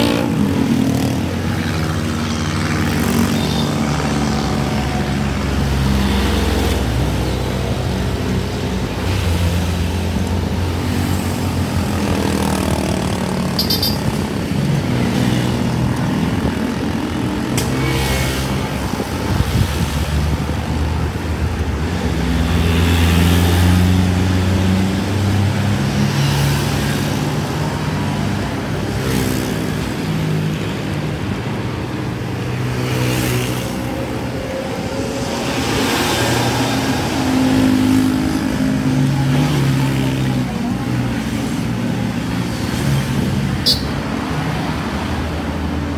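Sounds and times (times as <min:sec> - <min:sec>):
vehicle engines passing: 0:00.0 - 0:45.9.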